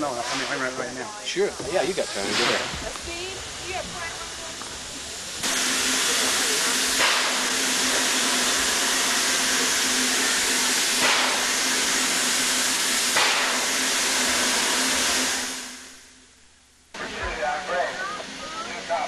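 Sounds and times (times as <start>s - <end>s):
steam locomotive hissing: 0.0s - 16.2s, 17.0s - 19.0s.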